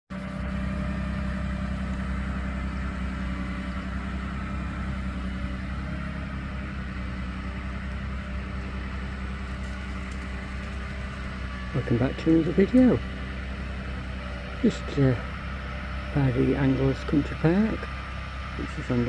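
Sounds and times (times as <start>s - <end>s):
harvester engine humming: 0.1s - 19.0s.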